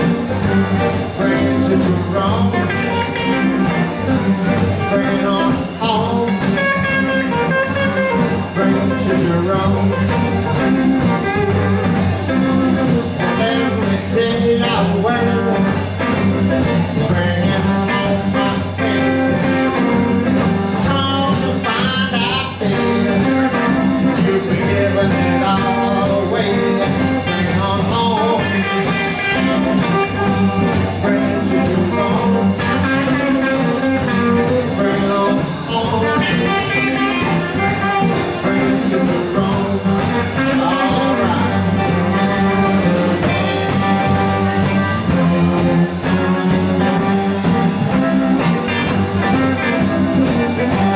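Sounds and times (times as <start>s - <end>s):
electric blues band playing: 0.0s - 50.9s
electric guitar lines: 0.0s - 50.9s.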